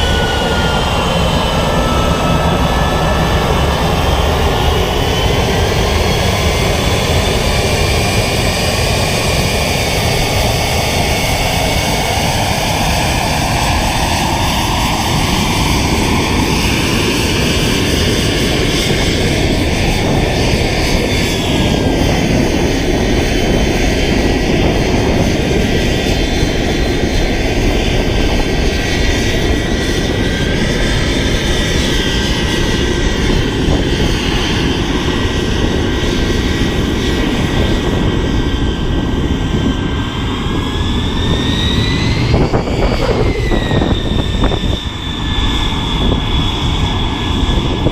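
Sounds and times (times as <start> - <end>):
aircraft engine running: 0.0 - 47.9.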